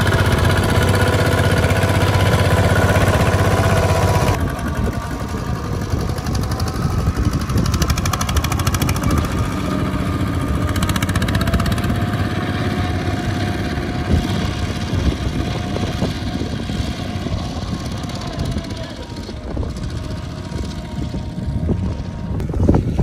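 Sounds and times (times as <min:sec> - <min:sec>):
diesel engine pulsing: 0:00.0 - 0:23.0.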